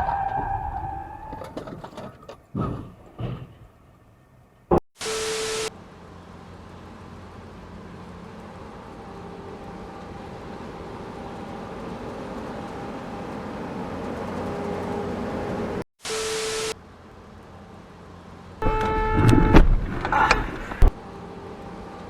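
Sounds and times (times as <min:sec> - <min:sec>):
vehicle rumble and road noise: 0:00.0 - 0:22.0.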